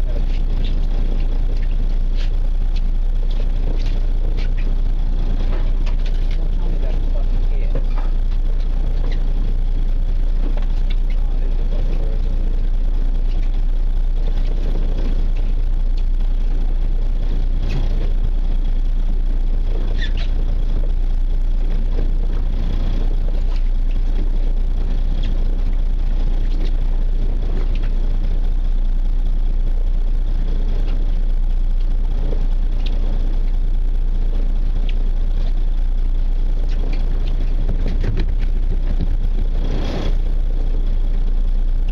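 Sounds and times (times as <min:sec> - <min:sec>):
boat engine rumbling: 0:00.0 - 0:41.9.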